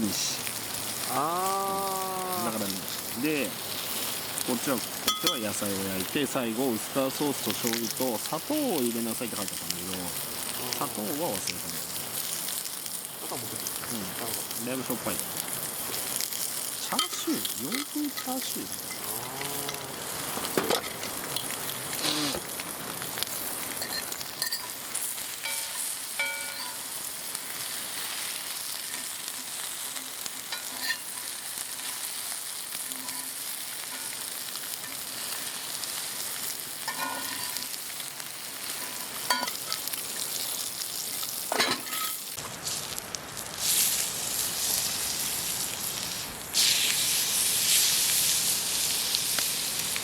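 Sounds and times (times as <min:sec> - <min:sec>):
pork sizzling in a skillet: 0:00.0 - 0:50.0.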